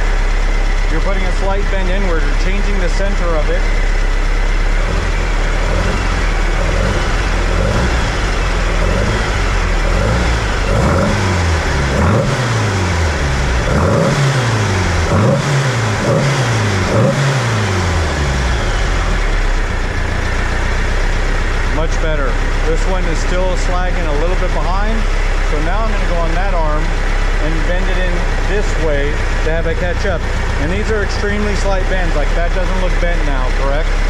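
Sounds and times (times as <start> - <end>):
engine revving: 0.0 - 34.0.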